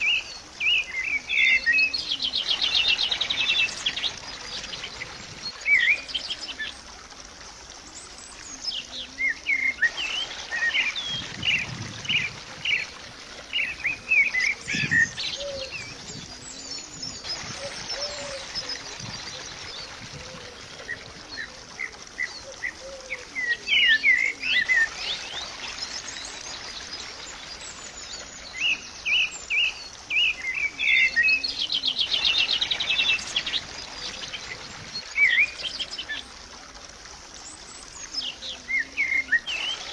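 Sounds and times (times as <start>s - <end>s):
birds chirping and singing: 0.0s - 36.4s, 37.4s - 39.9s.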